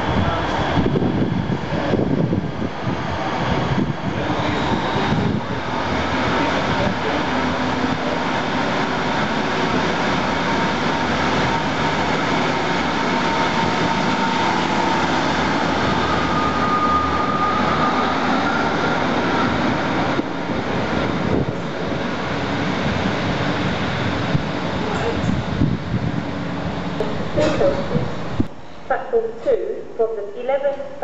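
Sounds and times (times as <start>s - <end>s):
diesel train passing: 0.0s - 28.9s
faint train whine: 0.0s - 31.0s.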